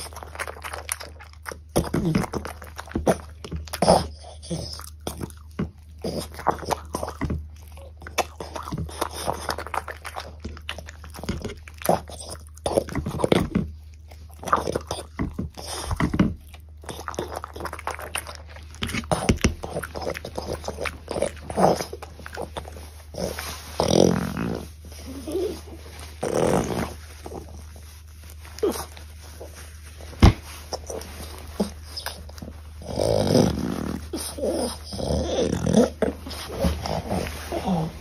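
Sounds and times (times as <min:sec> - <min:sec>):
dog crunching and chewing food: 0:00.0 - 0:38.0.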